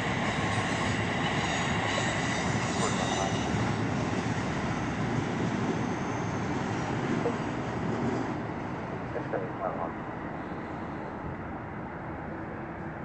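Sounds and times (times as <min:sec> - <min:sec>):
train wheels rumbling on track: 0:00.0 - 0:11.9.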